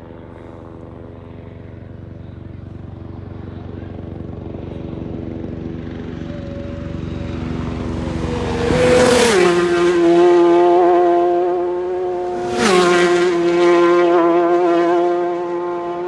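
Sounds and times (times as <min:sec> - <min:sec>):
superbikes passing at racing speed: 0:00.2 - 0:16.0.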